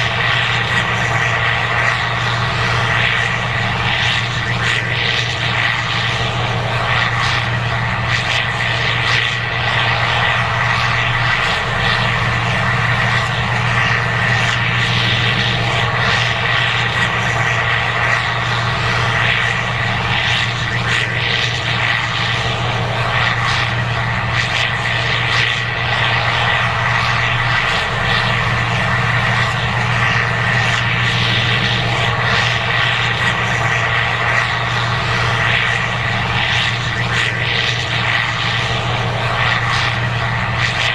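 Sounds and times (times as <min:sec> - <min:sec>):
combine harvester drone: 0:00.0 - 0:40.9
steady high whine: 0:00.0 - 0:40.9.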